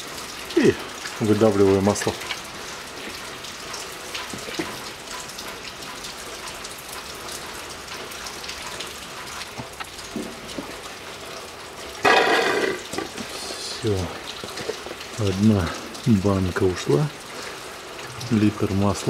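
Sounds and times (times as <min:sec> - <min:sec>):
rain patter: 0:00.0 - 0:19.0.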